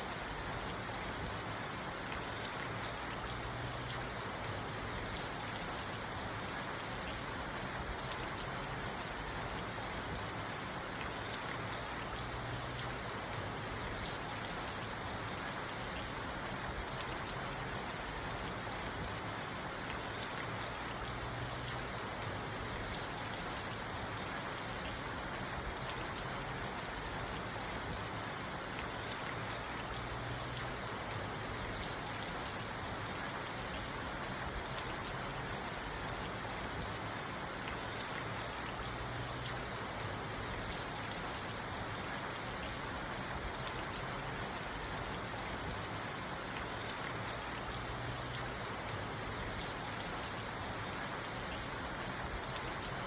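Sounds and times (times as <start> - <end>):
rain hissing on car: 0.0 - 53.0
raindrops ticking on roof and glass: 0.1 - 53.0.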